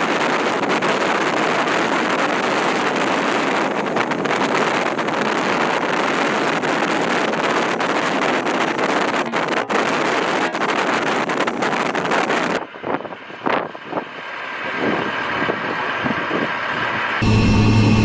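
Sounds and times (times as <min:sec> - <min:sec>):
aircraft engines rushing: 0:00.0 - 0:18.0
wind buffeting microphone: 0:00.0 - 0:18.0.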